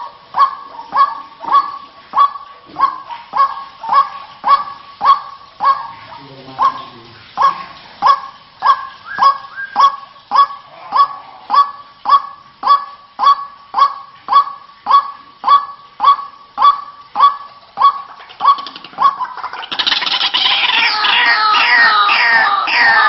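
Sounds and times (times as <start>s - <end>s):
waterhen harsh calls: 0.0s - 23.0s.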